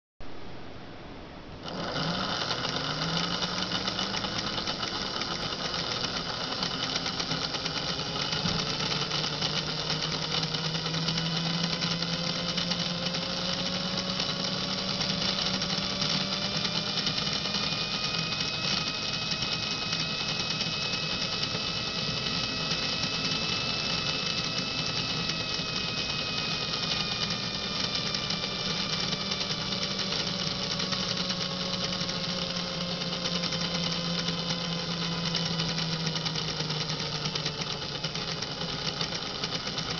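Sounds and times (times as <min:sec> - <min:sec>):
toy train motor whirring: 0:01.6 - 0:39.9.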